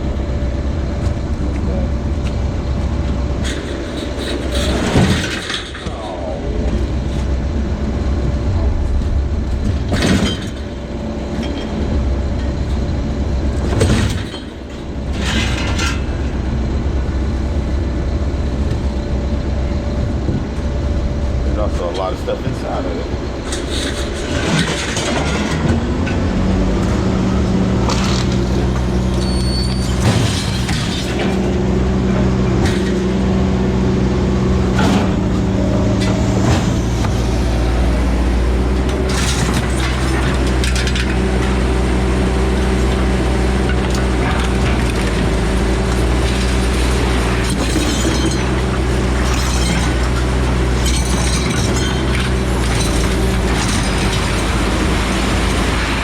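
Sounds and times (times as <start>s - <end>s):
clanks and rattles: 0.0s - 16.6s, 20.2s - 27.0s, 27.7s - 33.3s, 38.5s - 41.8s, 42.7s - 55.8s
engine running: 0.0s - 56.0s.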